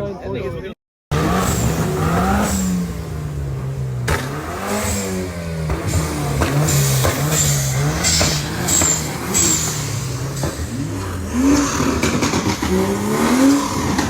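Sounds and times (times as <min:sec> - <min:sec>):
car engine revving hard: 0:01.1 - 0:14.0.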